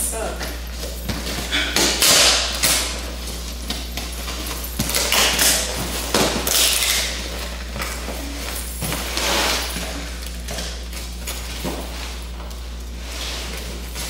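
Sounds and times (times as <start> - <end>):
packing tape and cardboard tearing: 1.1 - 14.0.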